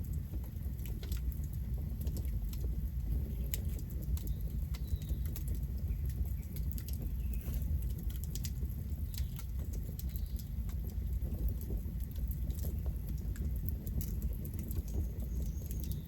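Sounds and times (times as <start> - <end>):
campfire crackling: 0.0 - 16.0
low fire rumble: 0.0 - 16.0.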